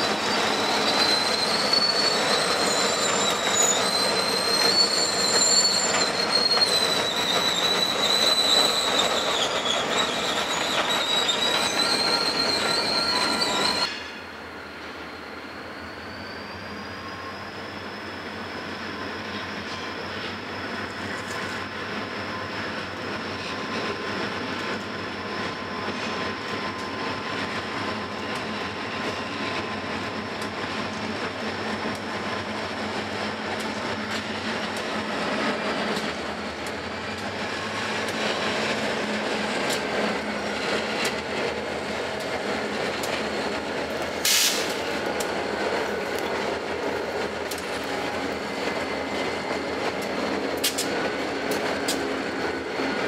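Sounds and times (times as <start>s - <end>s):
train rumbling over bridge: 0.0s - 53.0s.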